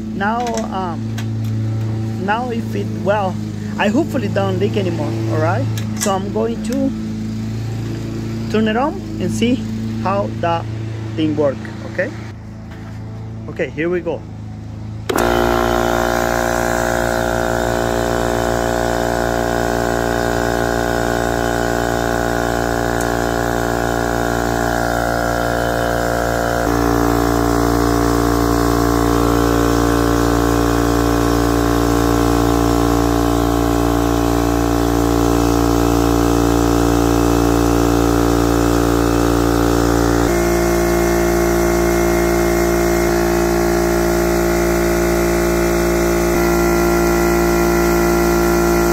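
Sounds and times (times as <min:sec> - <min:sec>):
air compressor running: 0:00.0 - 0:48.9.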